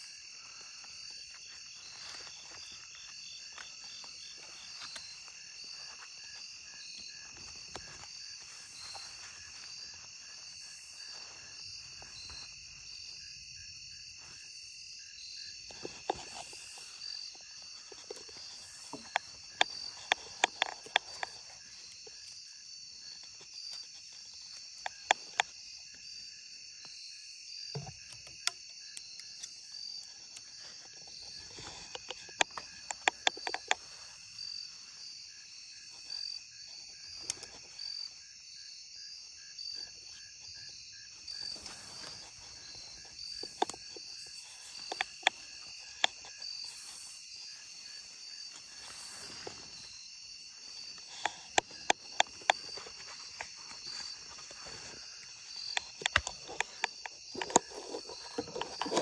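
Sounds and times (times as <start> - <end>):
crickets and insects trilling: 0.0 - 59.0.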